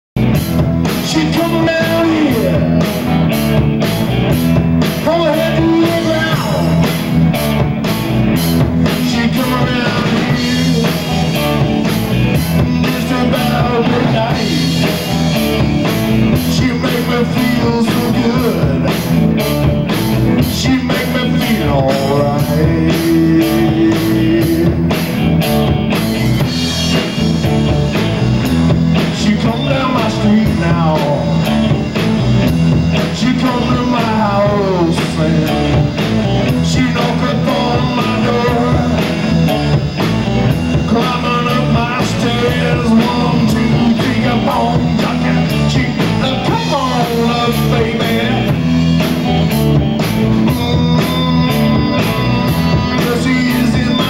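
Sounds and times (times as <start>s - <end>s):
rock band playing live: 0.2s - 54.0s.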